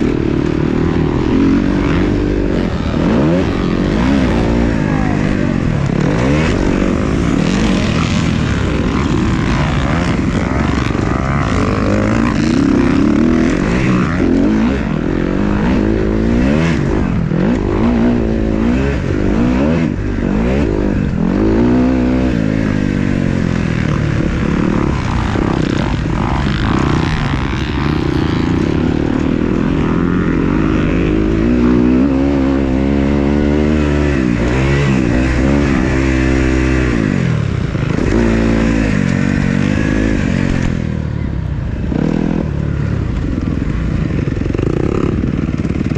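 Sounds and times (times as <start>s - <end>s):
motocross bikes revving: 0.0s - 45.9s.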